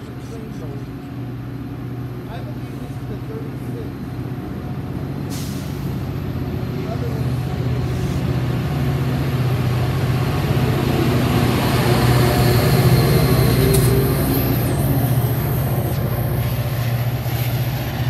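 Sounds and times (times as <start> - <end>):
diesel locomotive engine running: 0.0 - 18.0
wheels rumbling on rails: 0.0 - 18.0.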